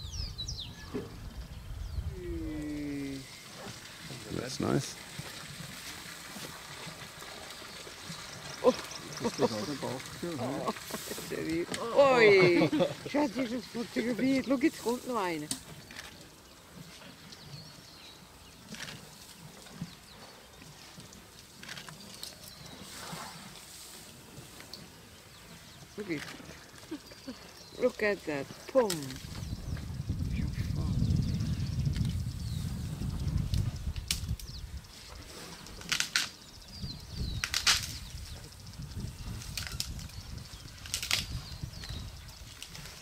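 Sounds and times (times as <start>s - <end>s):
elephants shuffling on dry ground: 2.7s - 43.0s.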